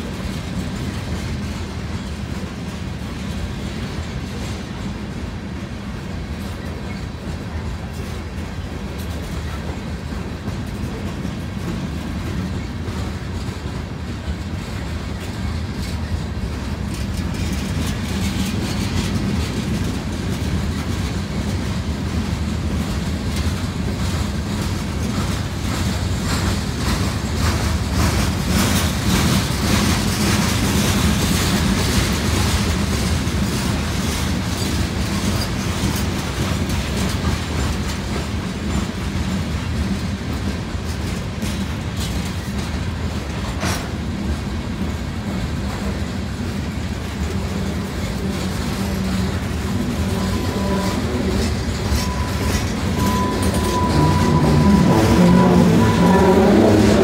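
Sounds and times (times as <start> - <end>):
freight train rumbling past: 0.0 - 57.0
wheels clicking over rail joints: 0.0 - 57.0.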